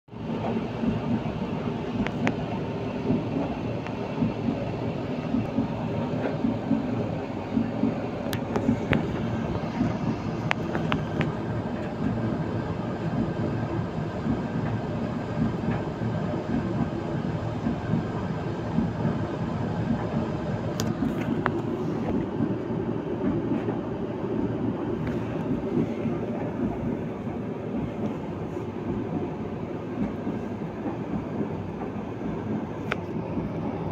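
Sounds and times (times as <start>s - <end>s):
tumble dryer rumbling: 0.1s - 33.9s.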